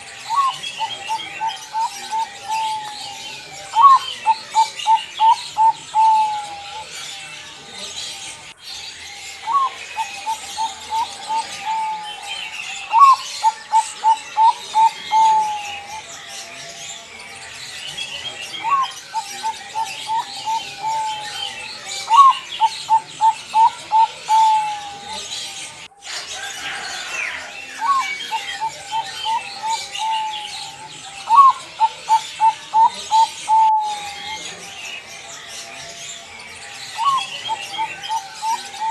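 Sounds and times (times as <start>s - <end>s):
dove cooing: 0.0s - 8.5s, 9.2s - 16.2s, 18.0s - 34.9s, 36.9s - 38.9s
small birds chirping: 0.0s - 38.9s.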